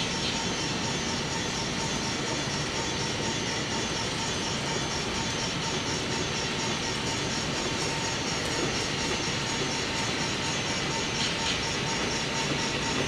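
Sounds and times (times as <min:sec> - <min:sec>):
model locomotive running on track: 0:00.0 - 0:13.0.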